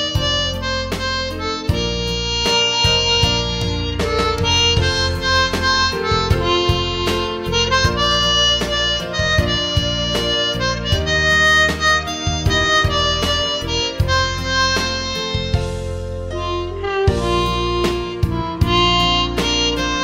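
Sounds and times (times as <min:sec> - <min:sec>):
harmonica melody: 0:00.0 - 0:20.0
instrumental backing track: 0:00.0 - 0:20.0.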